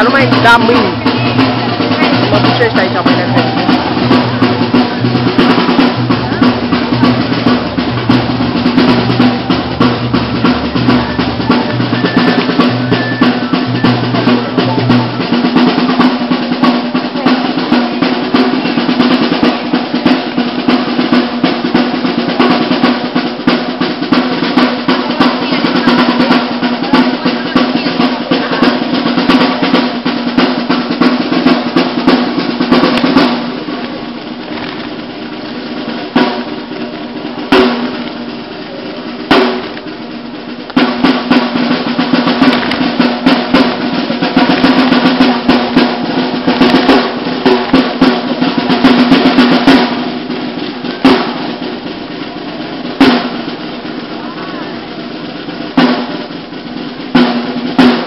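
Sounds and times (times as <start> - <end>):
fast rolling drum beat: 0.0 - 58.0.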